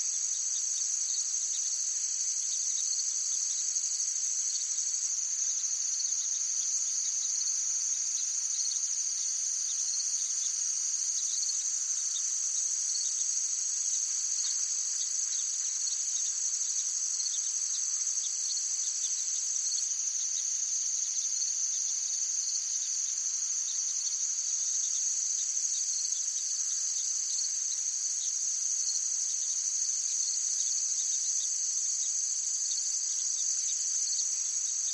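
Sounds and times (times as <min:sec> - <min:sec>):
insect chorus trilling: 0:00.1 - 0:34.9.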